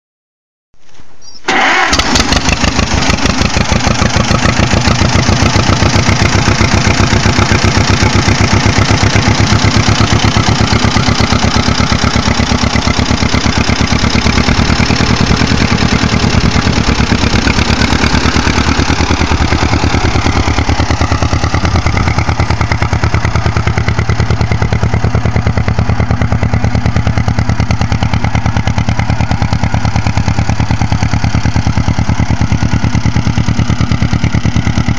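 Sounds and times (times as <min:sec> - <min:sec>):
tractor engine starting and running: 0:01.4 - 0:34.9.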